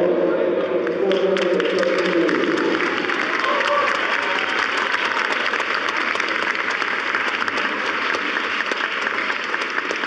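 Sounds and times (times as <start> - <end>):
audience applauding: 0.8 - 10.0.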